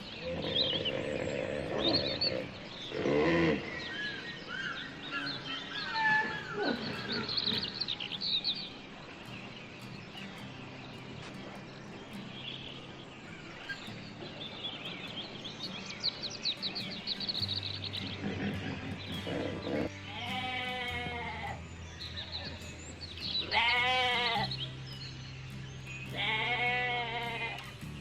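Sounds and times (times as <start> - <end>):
outdoor background hiss: 0.0 - 28.0
small birds chirping: 0.0 - 28.0.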